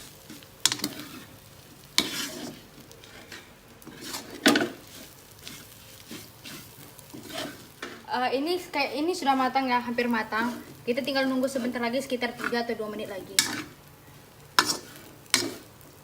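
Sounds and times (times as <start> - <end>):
faint sizzle: 0.0 - 16.0
spatula scraping a frying pan: 0.0 - 16.0.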